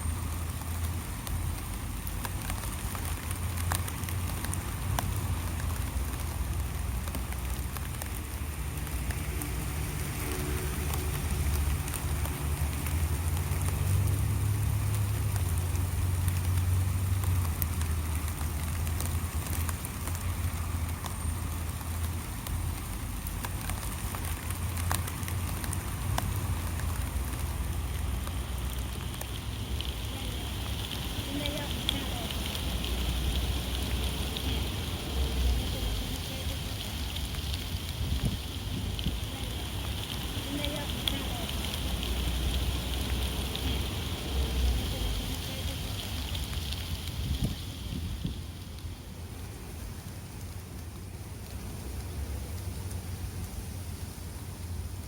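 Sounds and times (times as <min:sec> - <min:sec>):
light rain falling: 0:00.0 - 0:55.0
raindrops ticking: 0:00.0 - 0:55.0
steady low rumble: 0:00.0 - 0:55.0.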